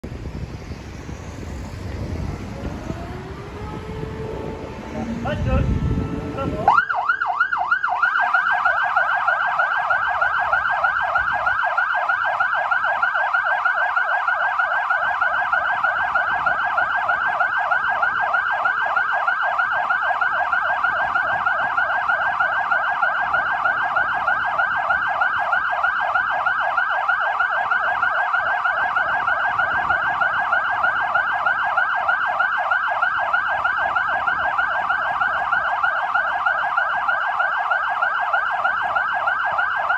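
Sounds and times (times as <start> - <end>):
fire engine sirens wailing: 0.0 - 39.9.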